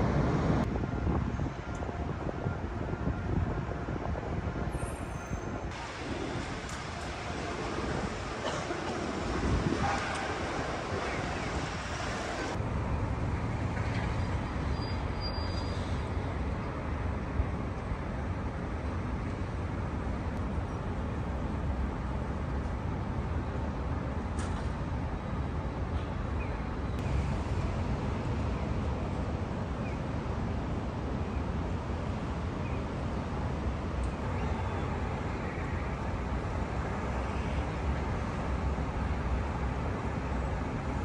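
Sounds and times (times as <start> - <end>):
city road traffic rumble: 0.0 - 41.0.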